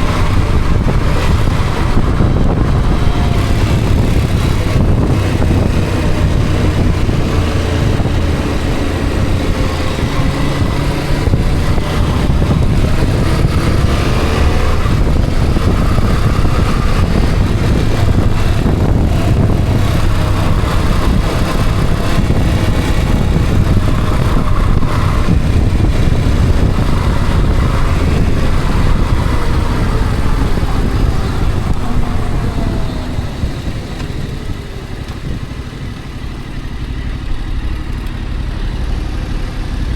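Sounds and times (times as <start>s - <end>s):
road noise: 0.0s - 39.9s
vehicle engine: 0.0s - 39.9s.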